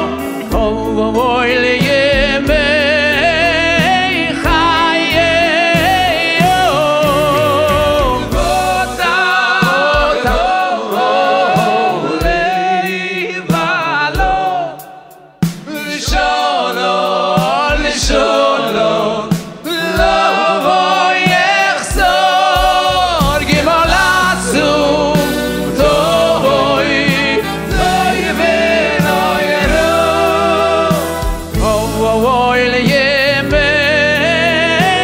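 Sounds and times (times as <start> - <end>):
live band playing: 0.0 - 35.0
people singing together: 0.0 - 35.0.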